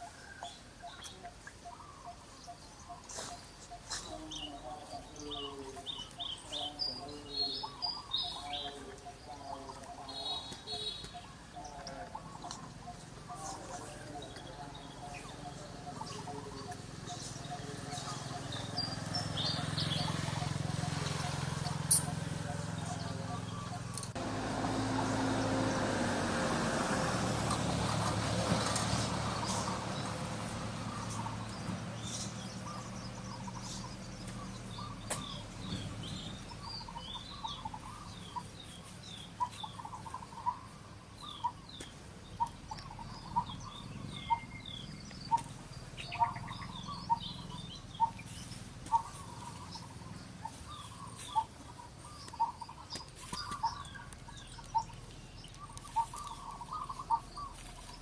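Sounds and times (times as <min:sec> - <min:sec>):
high bird chirps: 0:00.0 - 0:24.2, 0:30.8 - 0:58.0.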